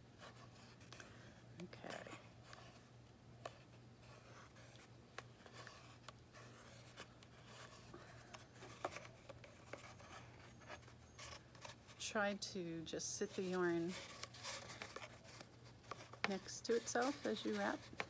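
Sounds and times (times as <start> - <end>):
yarn rustling on cardboard tube: 0.0 - 18.0.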